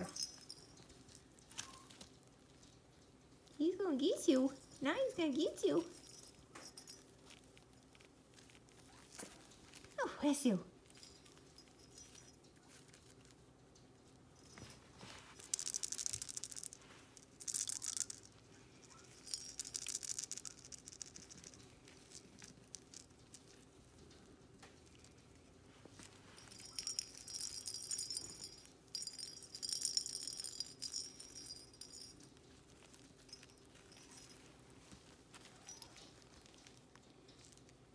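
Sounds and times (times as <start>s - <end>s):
bell jingling in toy ball: 0.0s - 2.0s, 3.8s - 9.3s, 10.0s - 13.2s, 14.4s - 23.6s, 26.0s - 36.7s
faint steady hum: 0.0s - 37.9s.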